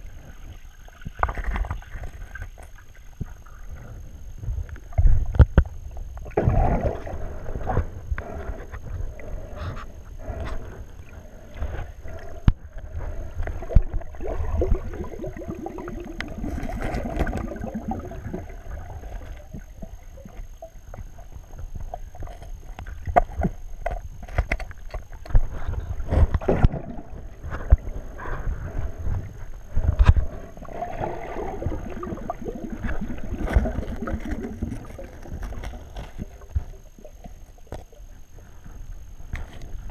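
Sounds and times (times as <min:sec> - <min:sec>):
muffled underwater water movement: 0:00.0 - 0:39.9.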